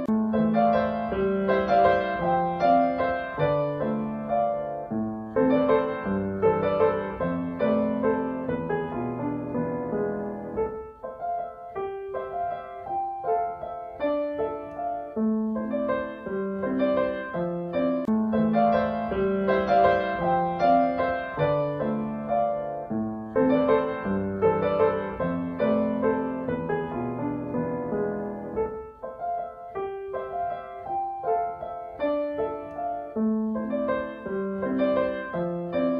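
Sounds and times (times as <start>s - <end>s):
gentle piano music: 0.0s - 35.9s.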